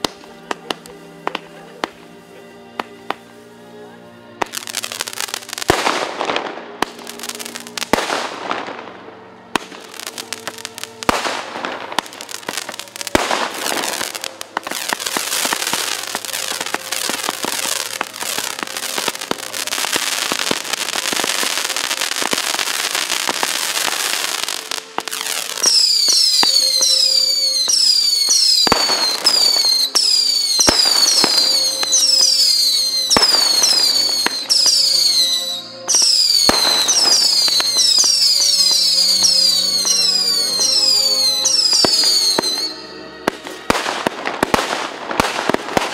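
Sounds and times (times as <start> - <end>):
fireworks crackling: 0.0 - 45.9
fireworks bangs: 4.4 - 45.9.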